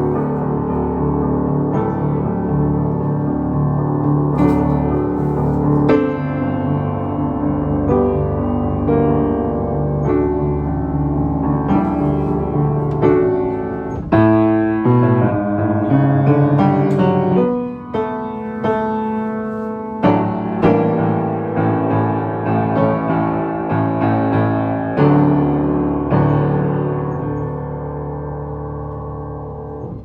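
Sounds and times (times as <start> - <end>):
solo piano playing: 0.0 - 30.0.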